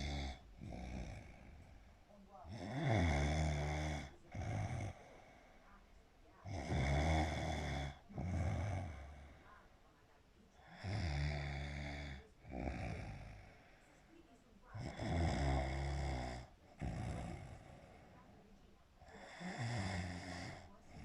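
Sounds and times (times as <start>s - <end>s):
snoring: 0.0s - 9.7s, 10.6s - 14.1s, 14.7s - 21.0s.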